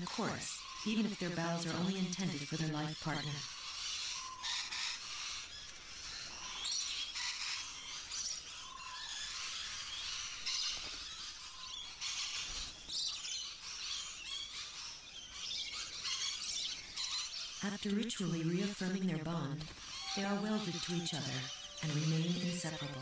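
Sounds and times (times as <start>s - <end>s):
lorikeets shrill calling: 0.0s - 23.0s.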